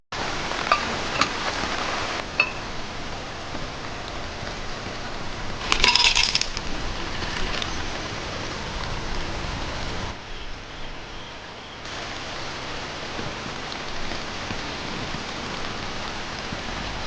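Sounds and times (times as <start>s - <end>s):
rain hissing: 0.1s - 17.0s.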